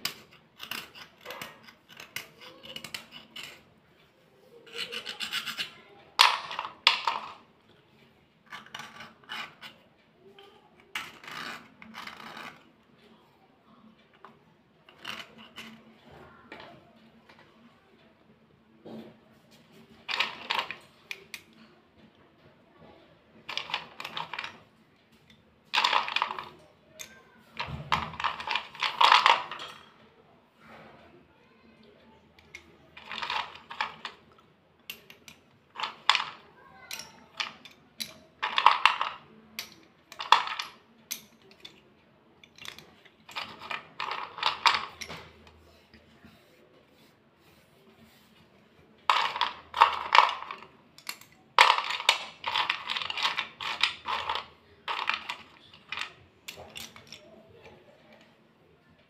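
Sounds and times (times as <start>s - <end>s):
slate pencils clicking together: 0.0s - 7.8s, 8.4s - 12.9s, 13.8s - 17.5s, 19.6s - 21.7s, 23.4s - 30.0s, 32.3s - 58.4s.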